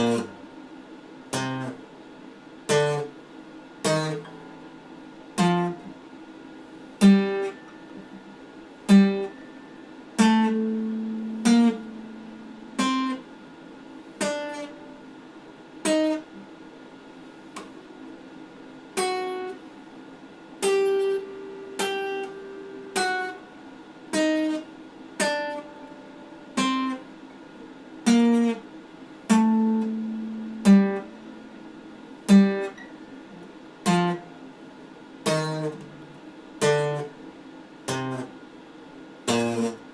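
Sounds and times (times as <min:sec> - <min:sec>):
acoustic guitar played slowly: 0:00.0 - 0:00.6, 0:01.3 - 0:02.0, 0:02.6 - 0:16.6, 0:18.9 - 0:19.8, 0:20.5 - 0:38.5, 0:39.2 - 0:39.9.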